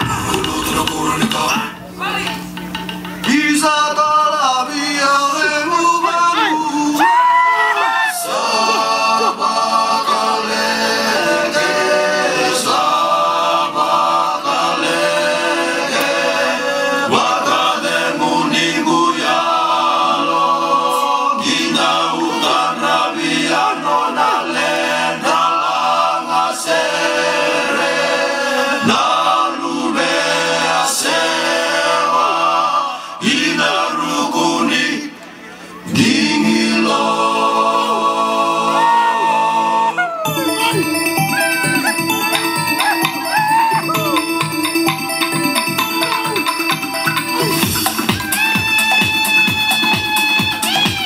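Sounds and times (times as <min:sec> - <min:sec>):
group singing in harmony: 0:00.0 - 0:01.8, 0:03.2 - 0:35.2, 0:35.8 - 0:50.4.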